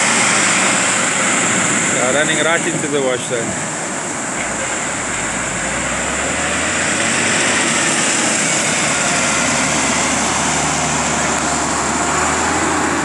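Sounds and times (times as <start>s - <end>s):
breaking waves: 0.0s - 13.0s
tractor diesel engine running: 0.0s - 13.0s.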